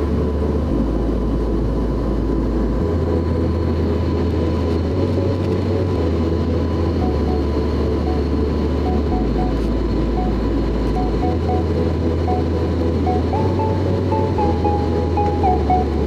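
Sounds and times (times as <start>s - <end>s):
faint steady whines: 0.0s - 16.0s
jet engine drone: 0.0s - 16.0s.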